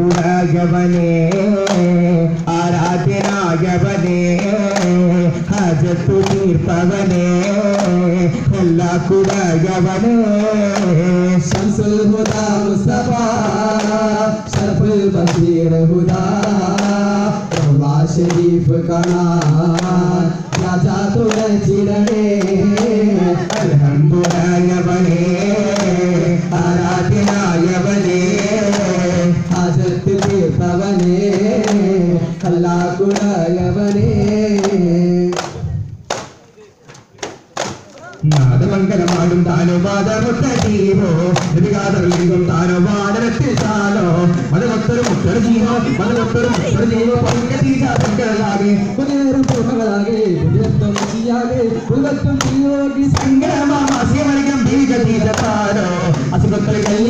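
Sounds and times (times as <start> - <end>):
frame drums beating: 0.0 - 35.5, 37.6 - 57.0
men singing a devotional song: 0.0 - 35.9, 38.2 - 57.0.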